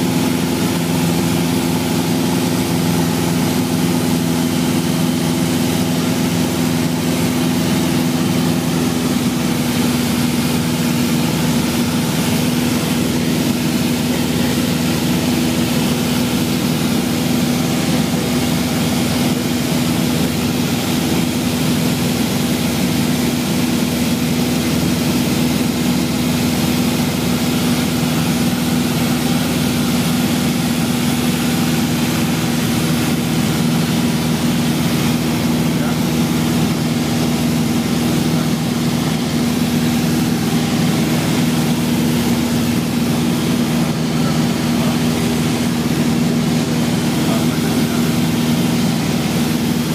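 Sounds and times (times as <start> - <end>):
aircraft engine droning: 0.0 - 49.9
airflow rushing: 0.1 - 49.9.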